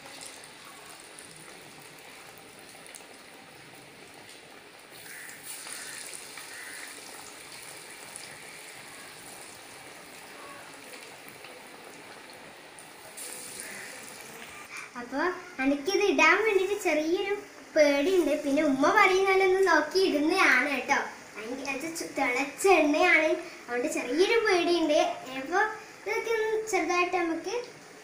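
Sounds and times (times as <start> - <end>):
hot oil sizzling and bubbling: 0.0 - 28.0.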